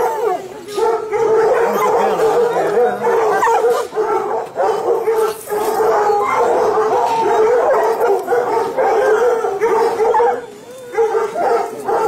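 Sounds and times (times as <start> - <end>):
hounds baying and yelping: 0.0 - 12.0.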